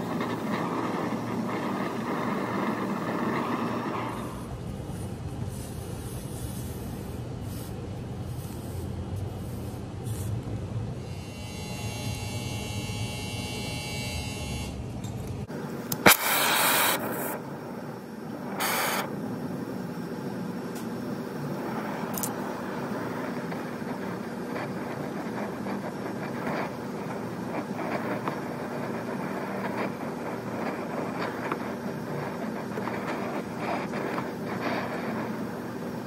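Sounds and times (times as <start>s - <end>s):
torch flame hissing: 0.0s - 11.3s, 15.4s - 36.0s.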